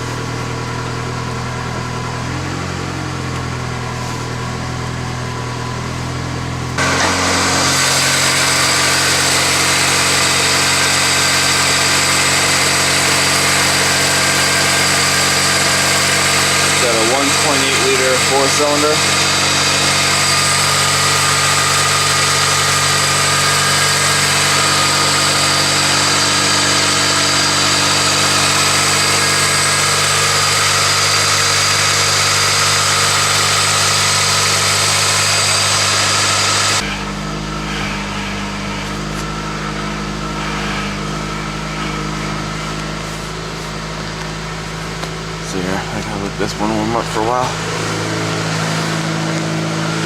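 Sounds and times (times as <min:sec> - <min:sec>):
car engine idling fast: 0:00.0 - 0:50.0.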